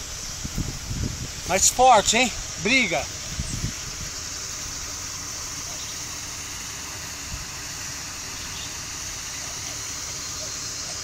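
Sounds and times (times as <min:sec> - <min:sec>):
rushing hiss: 0:00.0 - 0:11.0.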